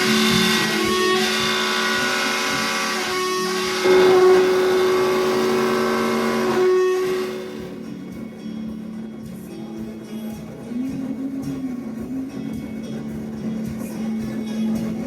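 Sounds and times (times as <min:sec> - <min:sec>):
guitar chords ringing: 0:00.0 - 0:15.0.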